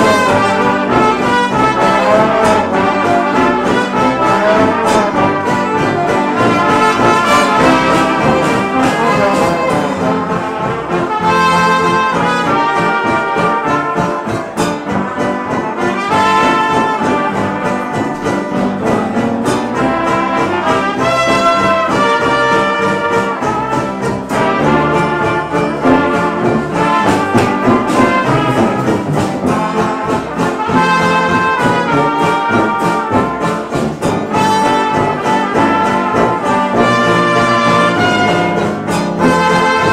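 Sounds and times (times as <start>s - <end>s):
jazz band playing: 0.0s - 39.9s
trumpets and trombone: 0.0s - 39.9s.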